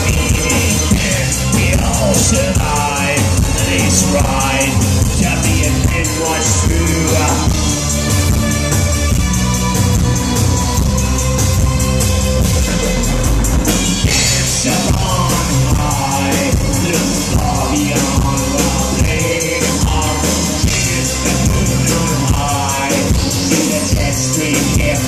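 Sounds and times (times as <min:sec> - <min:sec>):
drum and electronics beat: 0:00.0 - 0:25.0.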